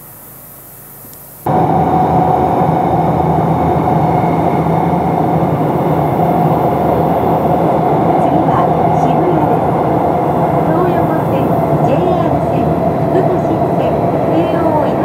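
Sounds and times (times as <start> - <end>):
loud machinery humming: 1.4 - 15.0.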